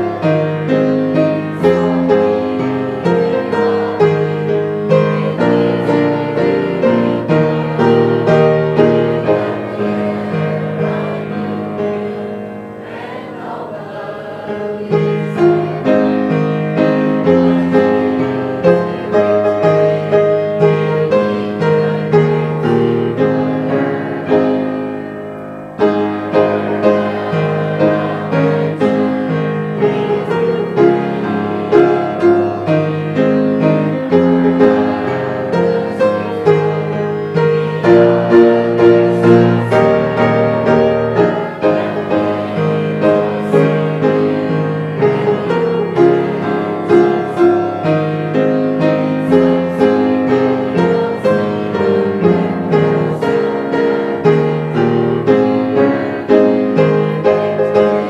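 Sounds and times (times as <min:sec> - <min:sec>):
piano playing hymn: 0:00.0 - 0:58.0.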